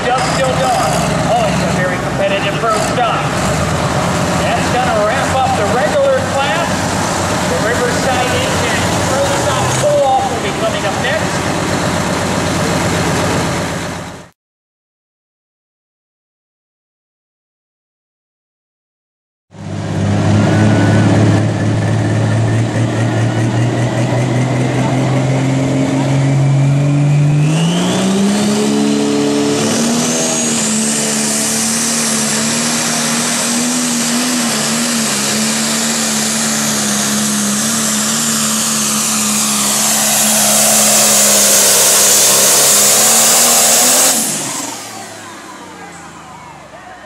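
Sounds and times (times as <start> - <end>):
diesel tractor engine running hard: 0.0 - 14.3, 19.5 - 47.0
high turbo whine: 0.0 - 14.3, 19.5 - 47.0.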